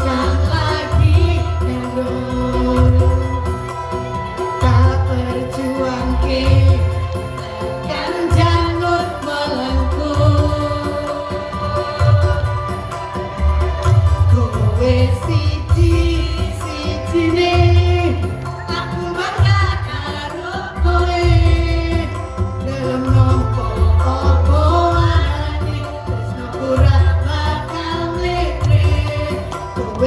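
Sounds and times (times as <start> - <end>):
mixed choir singing: 0.0 - 3.6, 4.8 - 30.0.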